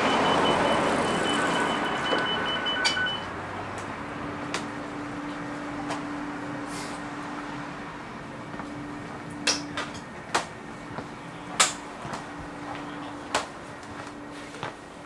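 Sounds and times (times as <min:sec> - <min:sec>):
train carriage hum: 0:00.0 - 0:15.0.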